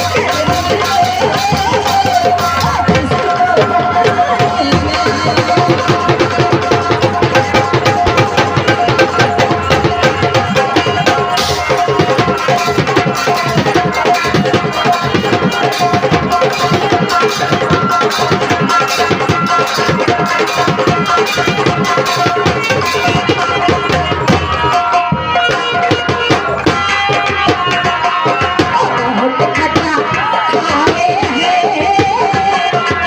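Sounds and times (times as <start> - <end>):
fast hand drum playing: 0.0 - 33.0.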